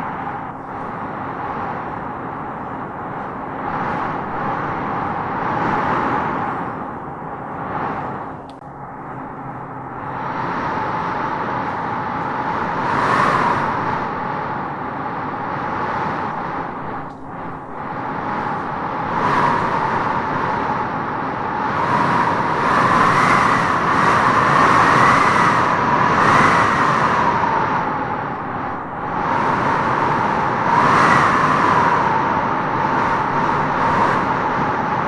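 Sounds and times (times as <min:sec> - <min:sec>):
faint wind whistling: 0:00.0 - 0:35.0
wind blowing in gusts: 0:00.0 - 0:35.0.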